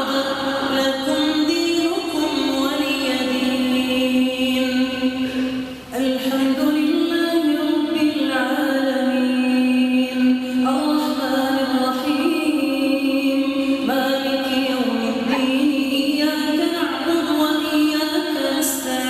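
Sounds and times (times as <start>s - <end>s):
person chanting recitation: 0.0s - 19.0s.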